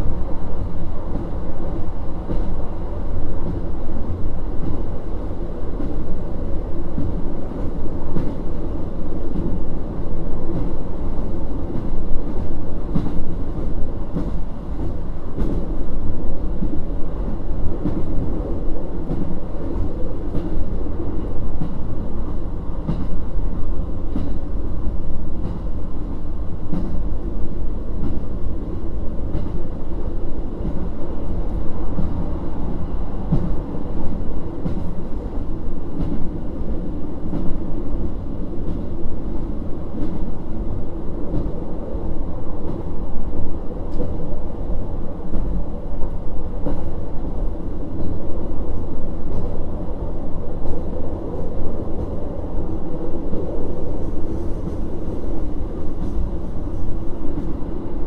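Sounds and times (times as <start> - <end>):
diesel railcar rumble: 0.0 - 58.0.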